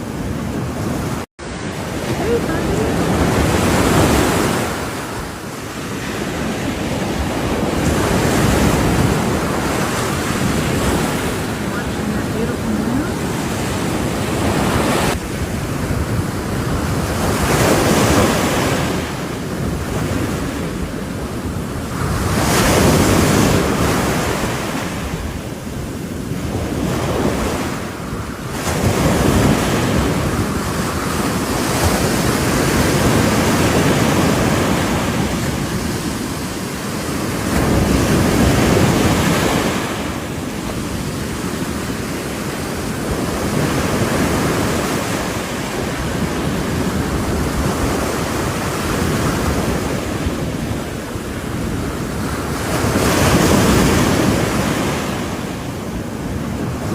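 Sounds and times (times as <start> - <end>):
ocean waves breaking: 0.0 - 56.9
wind buffeting microphone: 0.0 - 56.9.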